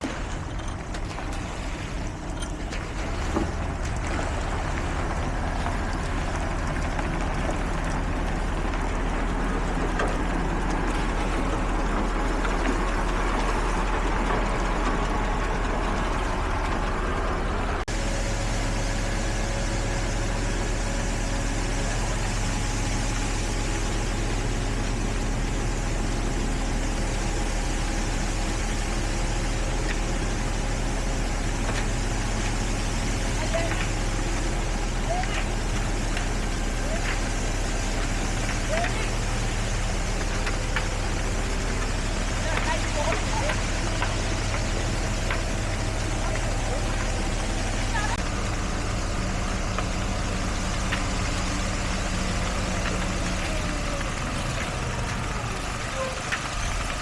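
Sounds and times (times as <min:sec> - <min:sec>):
diesel construction vehicles running: 0:00.0 - 0:57.0.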